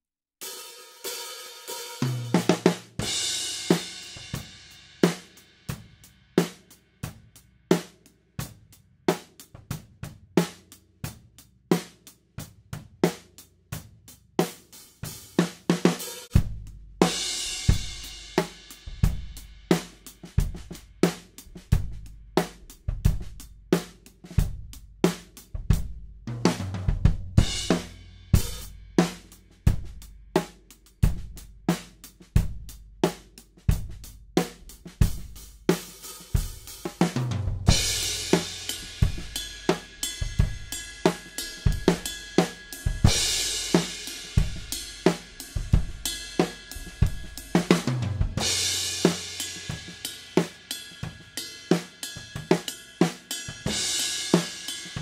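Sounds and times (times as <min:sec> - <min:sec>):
drum kit playing a beat: 0:00.4 - 0:55.0.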